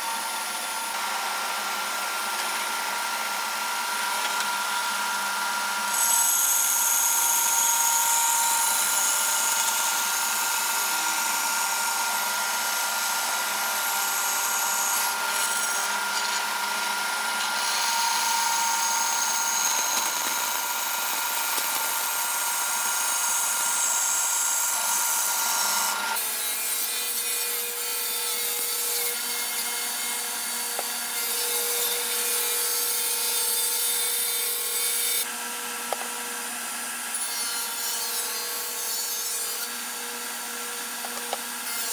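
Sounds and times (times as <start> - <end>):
bandsaw cutting metal: 0.0 - 41.9
saw humming: 0.0 - 41.9.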